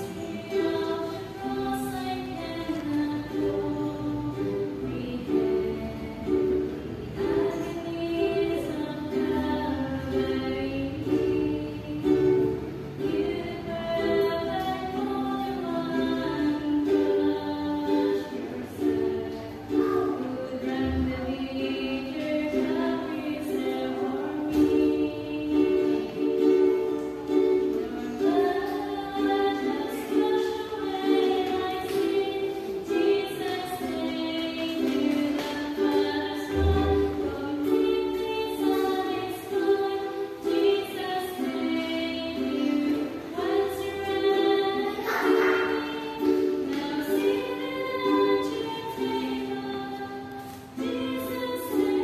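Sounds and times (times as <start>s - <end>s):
strummed ukulele: 0.0s - 52.0s
woman singing: 0.0s - 52.0s.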